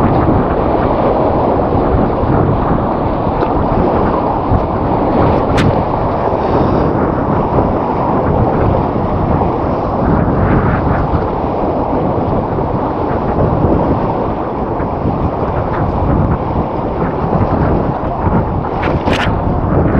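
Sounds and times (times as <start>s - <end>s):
whitewater rushing: 0.0s - 19.9s
wind buffeting microphone: 0.0s - 19.9s.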